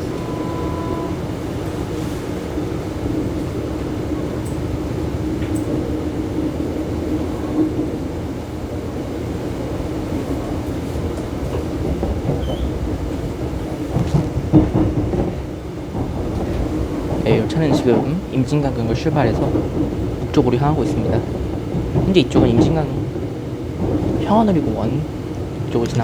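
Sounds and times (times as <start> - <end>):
electric train running on rails: 0.0 - 26.0.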